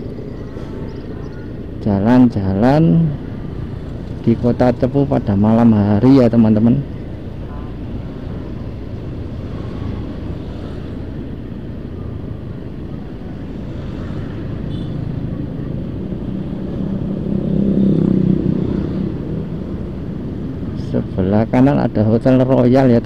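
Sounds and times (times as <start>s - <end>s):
motorcycle engine rumble: 0.0s - 21.6s
road noise: 0.0s - 23.0s.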